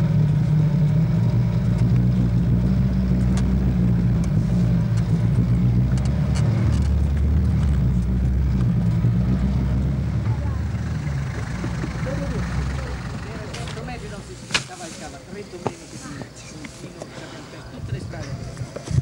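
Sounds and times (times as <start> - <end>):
car engine running: 0.0 - 16.4.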